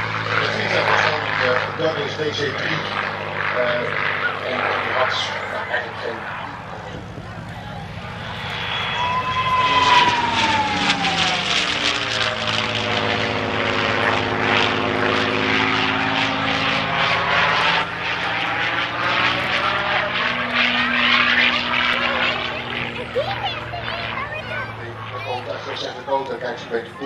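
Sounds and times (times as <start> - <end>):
propeller plane passing overhead: 0.0 - 27.0.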